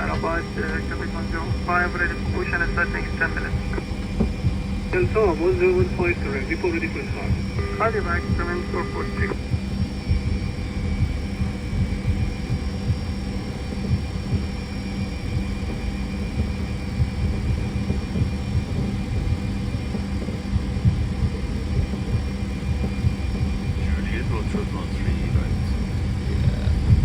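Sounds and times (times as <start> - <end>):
airliner cockpit hum: 0.0 - 27.0
steady whining tones: 0.0 - 27.0.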